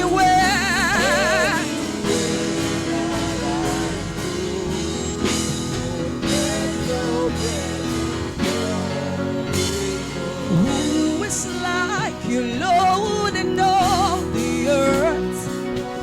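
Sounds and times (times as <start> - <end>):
guitar: 0.0 - 16.0
keyboard chords: 0.0 - 16.0
person singing: 0.0 - 16.0
steady drum beat: 0.0 - 16.0.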